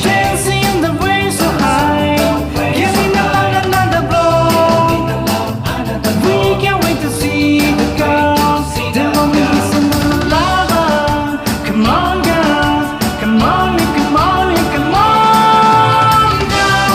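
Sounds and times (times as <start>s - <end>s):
upbeat rock song: 0.0s - 16.9s.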